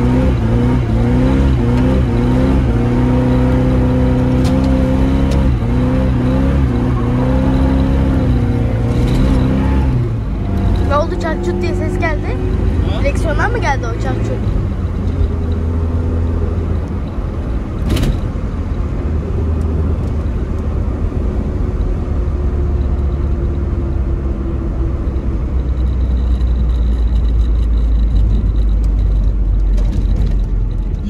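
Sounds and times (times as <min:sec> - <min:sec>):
car engine and exhaust drone: 0:00.0 - 0:31.0.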